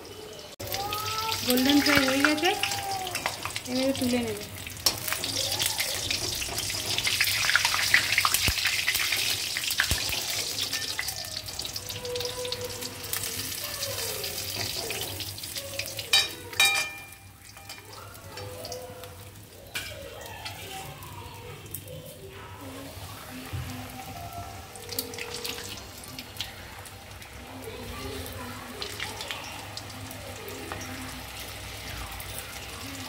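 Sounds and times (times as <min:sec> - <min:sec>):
food deep-frying in oil: 0:00.0 - 0:33.0.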